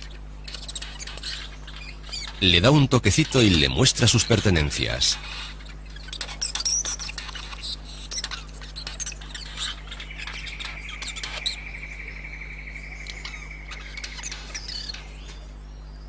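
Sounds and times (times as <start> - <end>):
bird chirps clicks and squawks: 0.0 - 16.0
high bird trill: 0.0 - 16.0.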